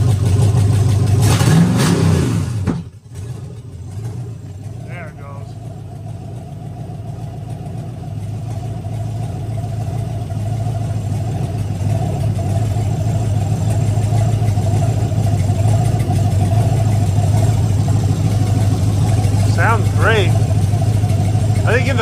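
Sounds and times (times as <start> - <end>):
engine running: 0.0 - 22.0
exhaust popping: 0.0 - 22.0.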